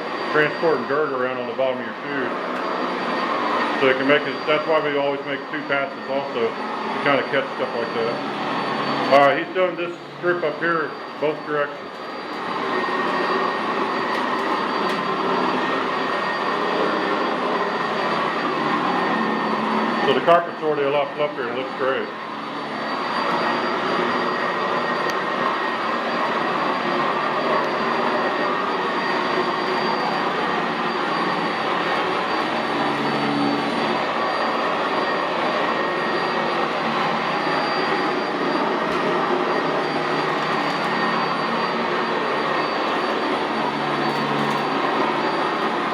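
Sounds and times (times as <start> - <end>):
upright vacuum on carpet: 0.0 - 45.9.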